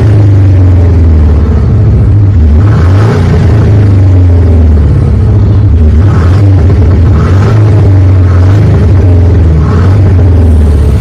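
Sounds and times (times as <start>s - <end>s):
deep exhaust rumble at idle: 0.0s - 11.0s
engine rev blip: 0.0s - 11.0s.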